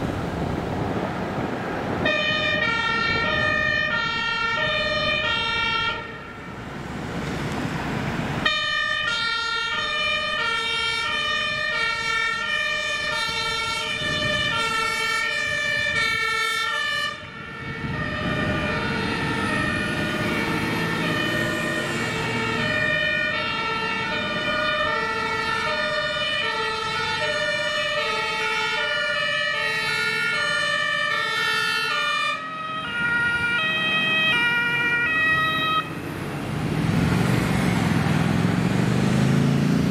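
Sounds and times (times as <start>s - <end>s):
diesel truck engine passing: 0.0s - 39.9s
two-tone emergency sirens: 2.0s - 7.1s, 8.4s - 38.8s.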